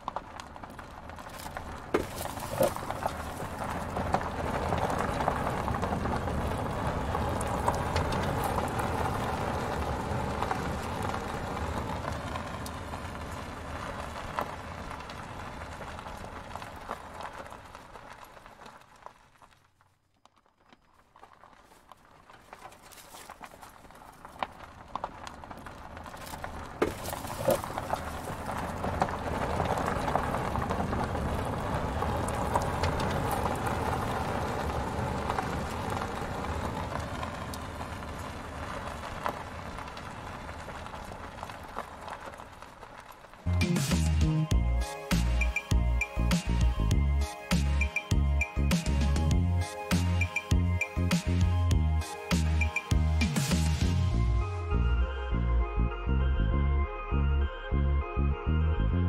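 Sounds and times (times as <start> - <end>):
toy roller grinding over sand: 0.0 - 19.7, 20.4 - 54.2.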